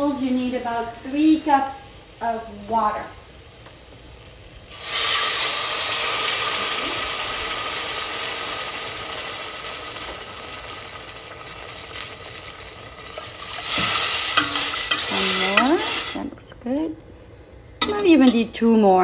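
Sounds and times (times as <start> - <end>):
loud sizzle: 0.0 - 19.0.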